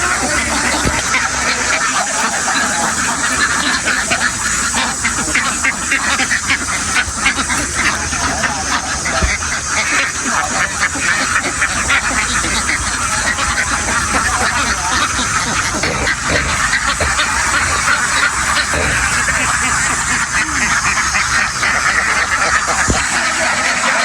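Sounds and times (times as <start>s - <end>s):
flock of ducks quacking: 0.0s - 24.0s.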